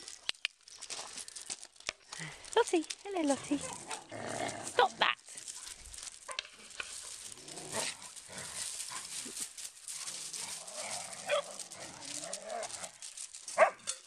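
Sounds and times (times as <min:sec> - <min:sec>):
paws scuffling on gravel: 0:00.0 - 0:14.0.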